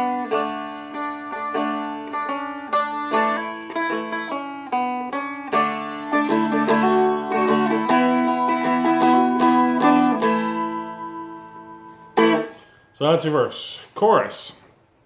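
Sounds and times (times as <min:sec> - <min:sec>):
dulcimer picking slow melody: 0:00.0 - 0:12.8.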